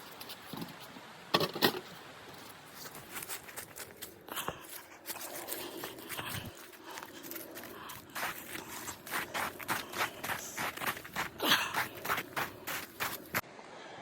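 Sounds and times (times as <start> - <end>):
crinkling and rustling: 0.0 - 13.4.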